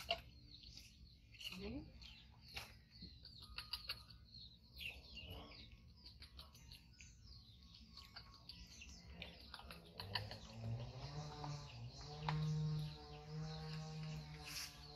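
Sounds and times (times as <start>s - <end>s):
small animals chirping: 0.0s - 14.9s.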